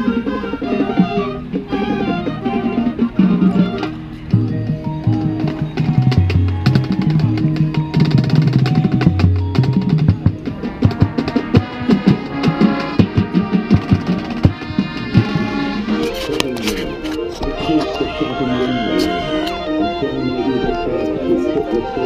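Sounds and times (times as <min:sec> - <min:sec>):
brass and woodwinds holding notes: 0:00.0 - 0:09.0, 0:09.6 - 0:22.0
drum-line strikes: 0:00.0 - 0:20.2.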